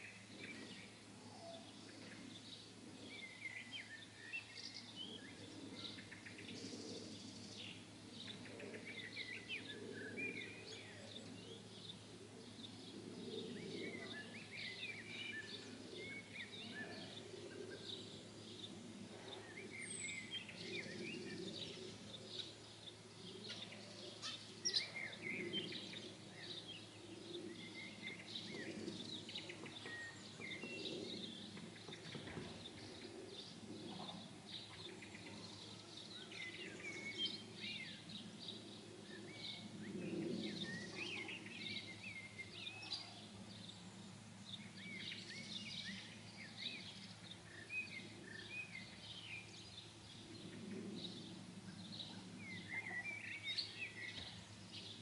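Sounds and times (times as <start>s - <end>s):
low background noise: 0.0s - 55.0s
songbirds chirping: 0.0s - 55.0s.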